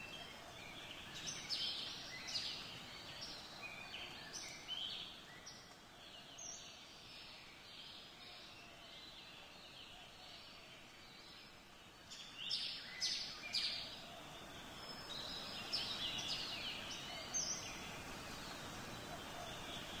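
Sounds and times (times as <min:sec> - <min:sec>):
birds chirping: 0:00.0 - 0:20.0
faint outdoor hiss: 0:00.0 - 0:20.0.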